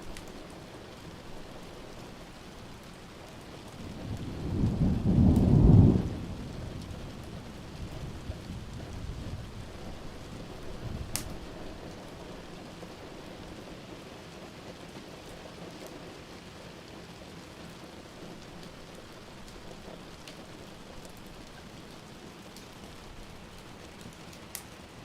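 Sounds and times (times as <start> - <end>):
fire crackling in a fireplace: 0.0 - 25.0
steady rain: 0.0 - 25.0.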